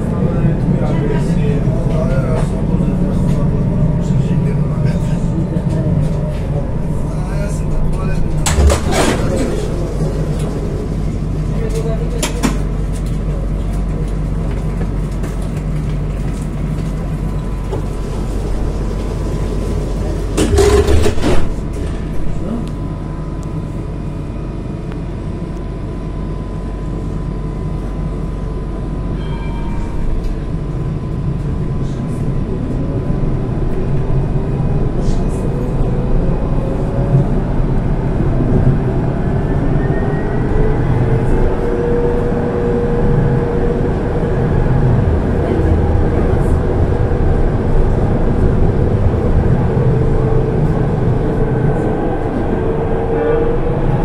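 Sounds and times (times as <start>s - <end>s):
low rumble: 0.0s - 54.0s
tram running noise: 0.0s - 54.0s.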